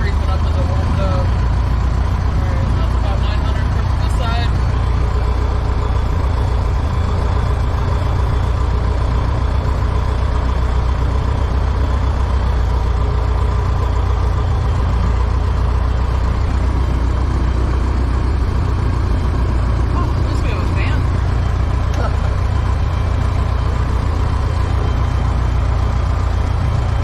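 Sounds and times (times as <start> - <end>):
propeller plane engine idling: 0.0 - 27.0.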